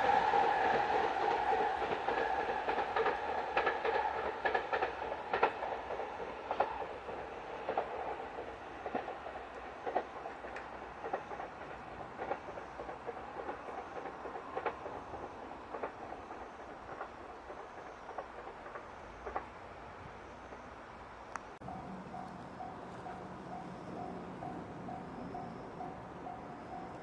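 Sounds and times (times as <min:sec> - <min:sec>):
train wheels clicking over rail joints: 0:00.0 - 0:27.0.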